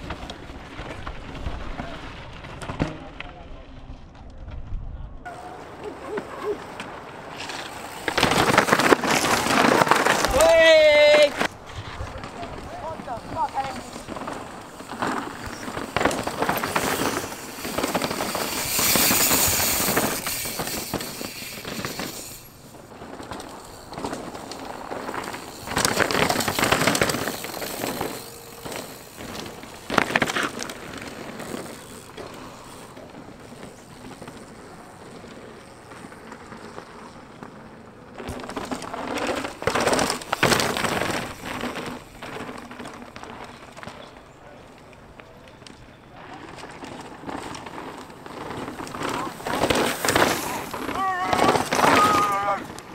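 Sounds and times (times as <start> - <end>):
bike tyres crunching on gravel: 5.3 - 52.9.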